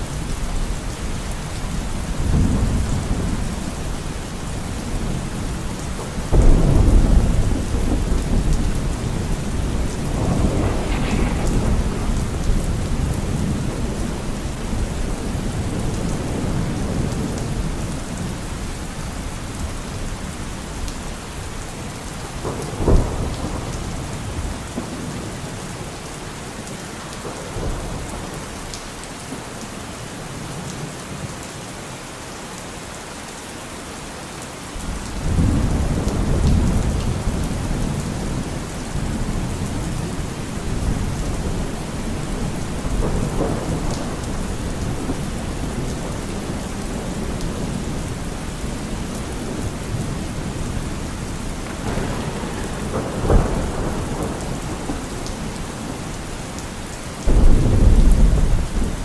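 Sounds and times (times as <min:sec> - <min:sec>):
steady rain falling: 0:00.0 - 0:59.0
rolling thunder: 0:00.1 - 0:25.9, 0:34.8 - 0:59.0.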